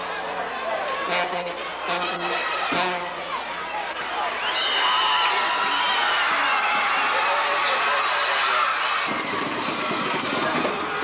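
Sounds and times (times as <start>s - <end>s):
crowd in stadium stands: 0.0s - 11.0s.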